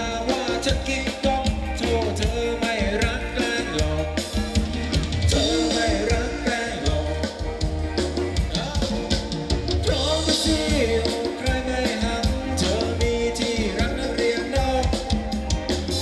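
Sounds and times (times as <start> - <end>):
person singing: 0.0 - 4.6, 5.2 - 16.0
bass: 0.0 - 16.0
drum kit beat: 0.0 - 16.0.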